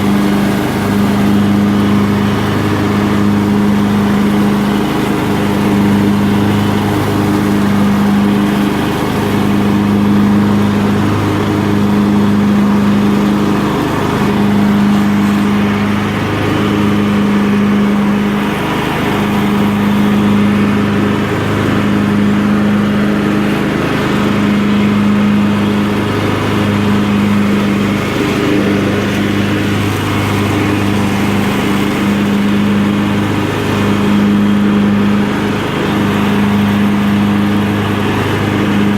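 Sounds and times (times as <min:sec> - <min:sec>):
lawn tractor mowing: 0:00.0 - 0:38.9.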